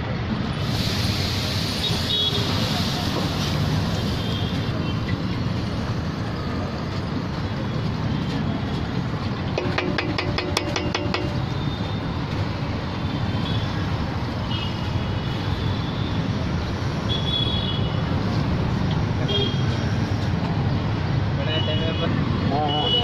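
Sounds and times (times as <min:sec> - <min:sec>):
low rumble of street traffic: 0:00.0 - 0:23.0.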